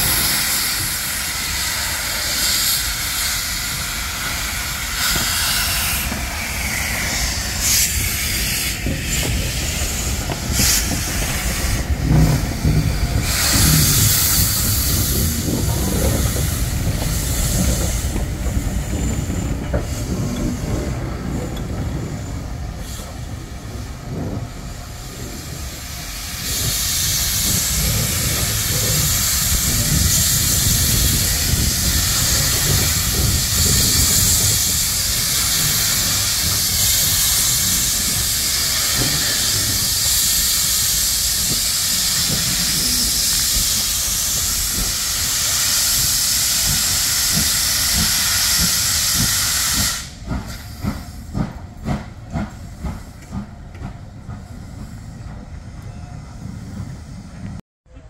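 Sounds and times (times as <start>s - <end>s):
steam locomotive hissing: 0.0s - 57.6s.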